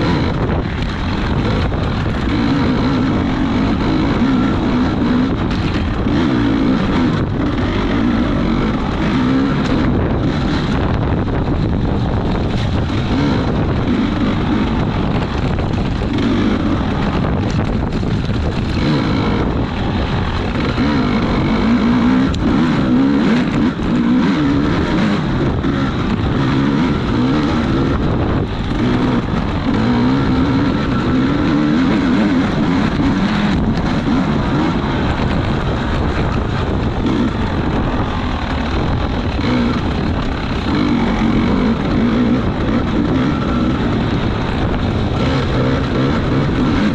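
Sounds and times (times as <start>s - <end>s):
small racing engine revving: 0.0s - 46.9s.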